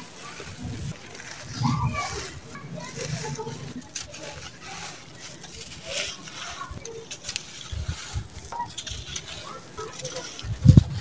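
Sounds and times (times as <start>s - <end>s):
gritty sand crunching and trickling: 0.0s - 11.0s.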